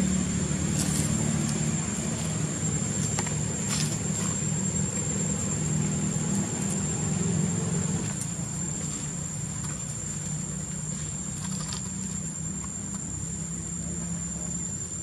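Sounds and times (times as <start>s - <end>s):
high-pitched whine: 0.0s - 15.0s
low engine hum: 0.0s - 15.0s.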